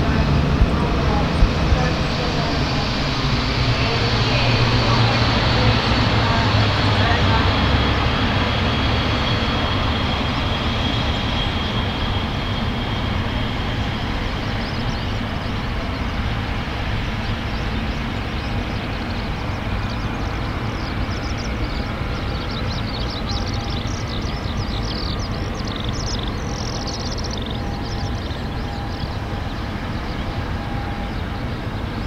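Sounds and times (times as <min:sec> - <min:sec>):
high engine whine: 0:00.0 - 0:32.0
jet engines idling: 0:00.0 - 0:32.0.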